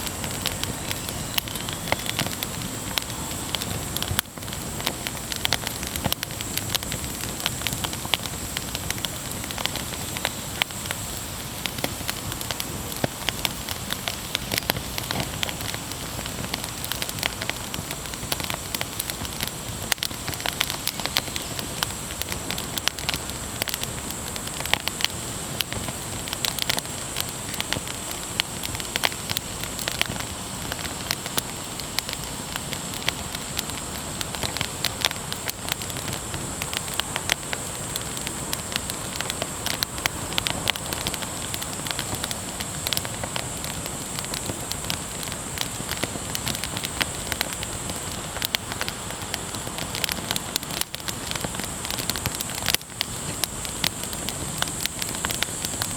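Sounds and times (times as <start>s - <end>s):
campfire crackling and snapping: 0.0s - 55.9s
steady fire hiss: 0.0s - 55.9s.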